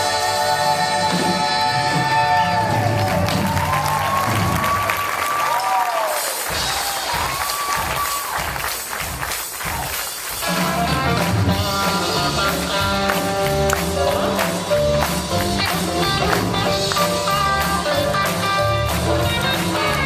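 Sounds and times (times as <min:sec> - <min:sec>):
live band playing instrumental: 0:00.0 - 0:05.1, 0:06.1 - 0:20.0.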